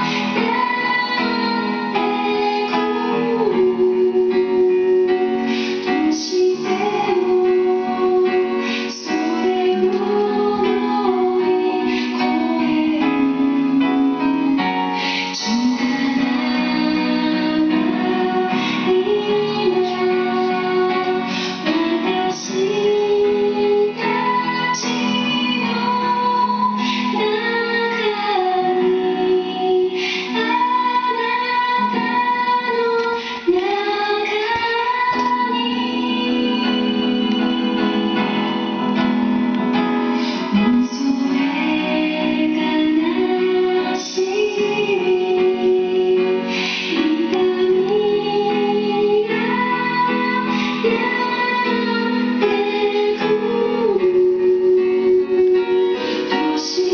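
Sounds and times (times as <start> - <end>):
instrumental backing: 0.0 - 56.9
woman singing: 0.0 - 56.9.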